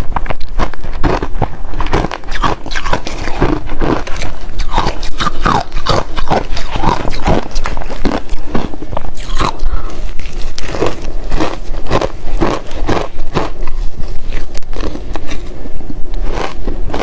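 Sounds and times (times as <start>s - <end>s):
ice crunching between teeth: 0.6s - 17.0s.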